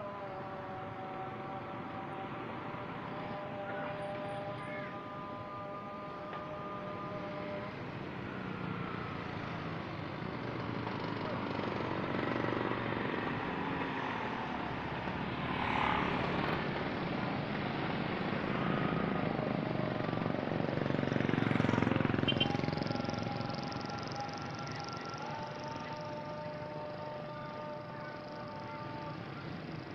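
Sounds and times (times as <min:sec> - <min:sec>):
motorbikes: 0:00.0 - 0:29.9
road traffic passing: 0:00.0 - 0:29.9.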